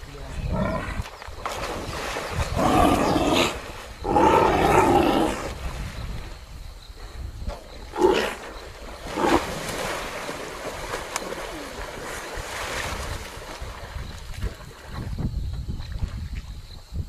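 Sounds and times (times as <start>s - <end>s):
water splashing and churning: 0.0s - 6.5s, 8.0s - 15.3s.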